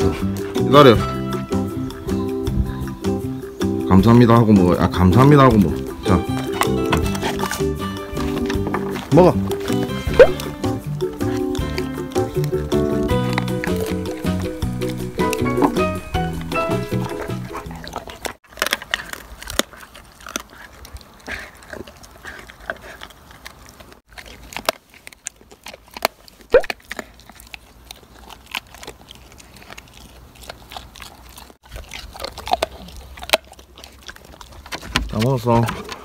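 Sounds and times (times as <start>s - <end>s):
dog crunching a hard treat: 0.0s - 36.0s.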